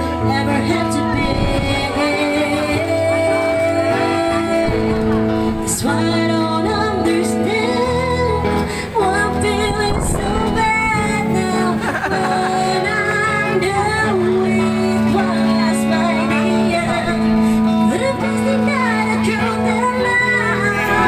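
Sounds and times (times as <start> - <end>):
guitar playing: 0.0 - 21.0
woman singing into a microphone: 0.0 - 21.0.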